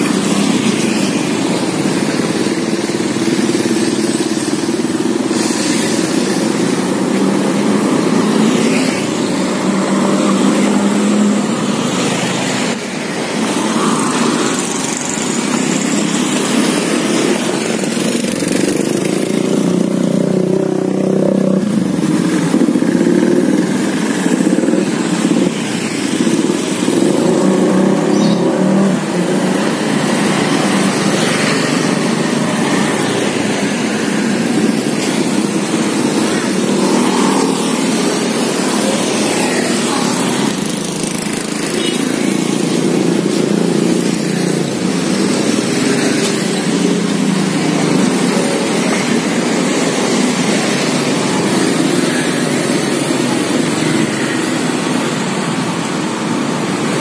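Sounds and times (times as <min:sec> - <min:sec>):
motorcycle engines passing: 0:00.0 - 0:57.0
street traffic rumble: 0:00.0 - 0:57.0.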